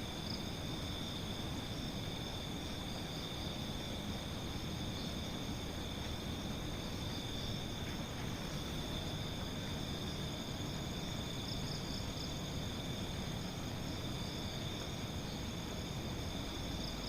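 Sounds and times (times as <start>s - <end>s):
crickets chirring: 0.0s - 17.0s
microphone hiss and rumble: 0.0s - 17.0s.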